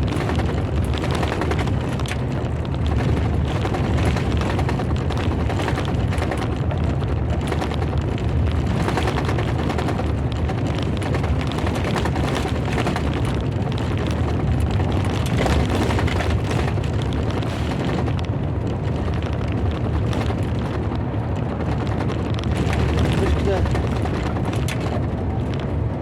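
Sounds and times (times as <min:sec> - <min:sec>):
thunderstorm low rumble: 0:00.0 - 0:26.0.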